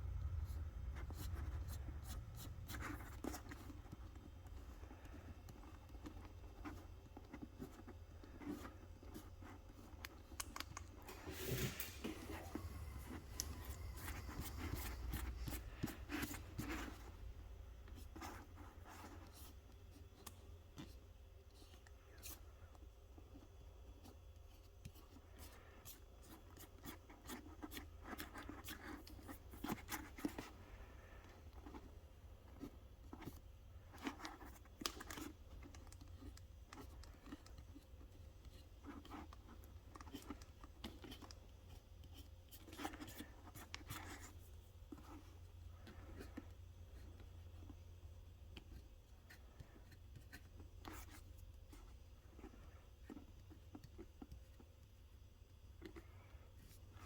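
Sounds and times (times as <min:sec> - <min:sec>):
scratching and rubbing of handling: 0:00.0 - 0:57.0
steady low hum: 0:00.0 - 0:57.0.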